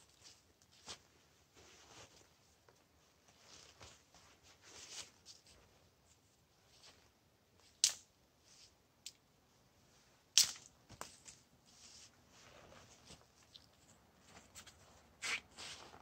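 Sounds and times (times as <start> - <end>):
fabric rustling: 0.0 - 7.3, 9.8 - 16.0.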